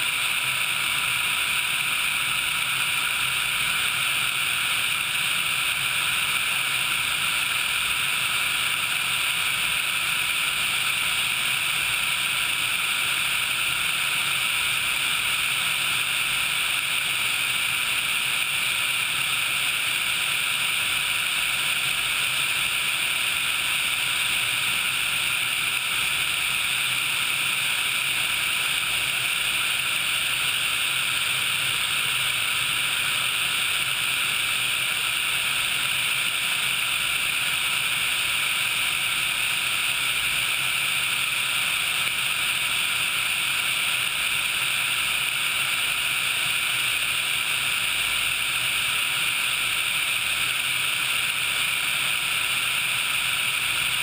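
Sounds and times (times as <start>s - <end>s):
helicopter engines and rotor drone: 0.0s - 54.0s.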